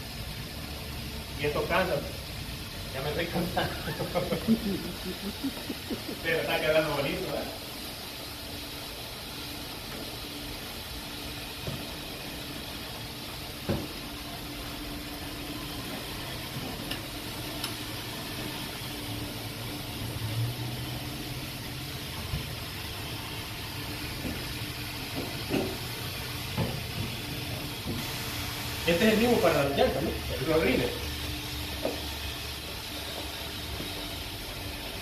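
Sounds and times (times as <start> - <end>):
foam brush spraying soapy water: 0.0 - 35.0.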